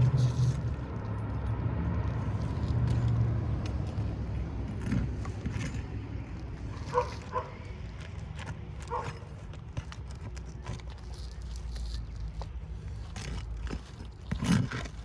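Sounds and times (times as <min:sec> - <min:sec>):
light scrapes and clinks: 0:00.0 - 0:15.0
vehicle engine humming: 0:00.0 - 0:15.0.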